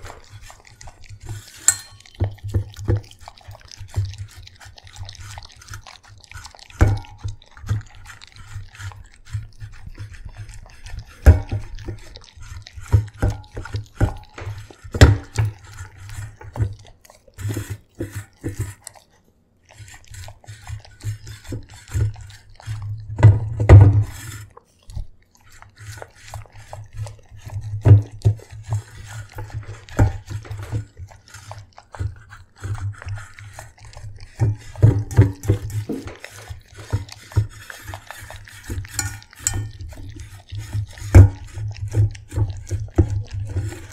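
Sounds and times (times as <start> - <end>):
dog eating from metal bowl: 0.0 - 43.9.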